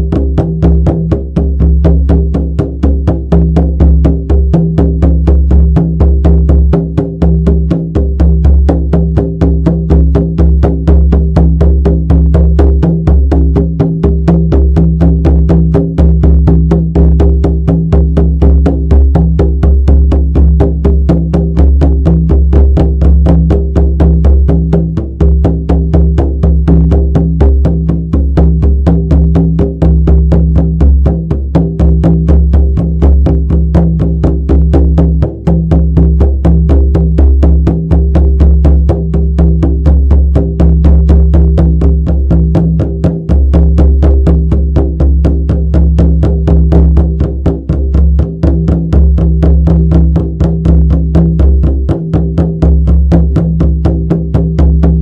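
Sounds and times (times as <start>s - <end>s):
frame drum beaten in fast rhythm: 0.0s - 55.0s.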